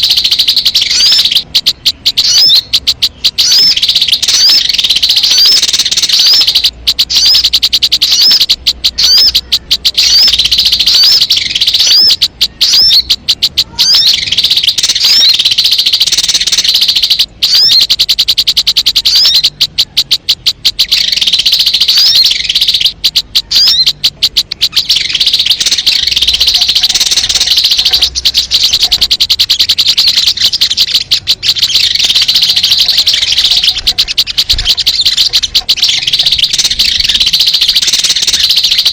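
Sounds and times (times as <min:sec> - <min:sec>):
high-pitched bird chirps: 0:00.0 - 0:38.9.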